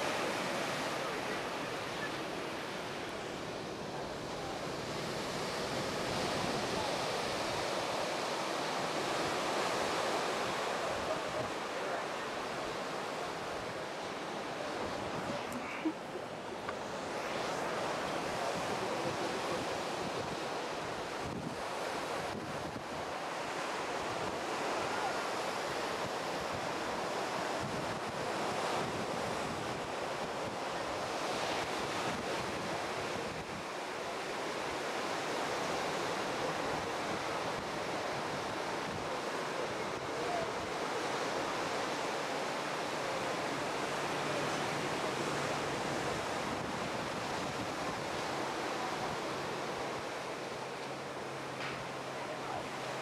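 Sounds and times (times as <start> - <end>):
ocean surf washing onto beach: 0.0 - 53.0.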